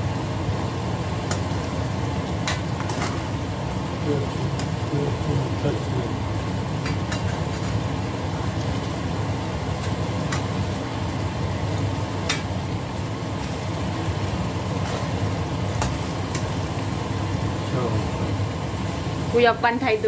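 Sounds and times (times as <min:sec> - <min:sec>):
fish simmering in a frying pan: 0:00.0 - 0:20.0.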